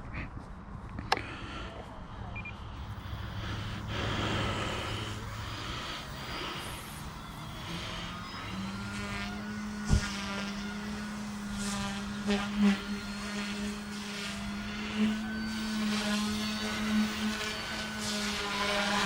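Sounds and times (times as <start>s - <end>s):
rc helicopter rotor hum: 0.9s - 19.0s.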